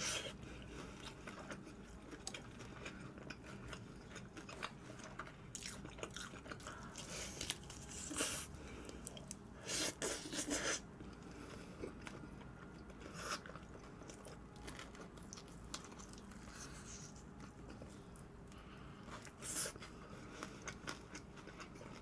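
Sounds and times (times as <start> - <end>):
chewing: 0.6 - 9.4, 10.0 - 22.0.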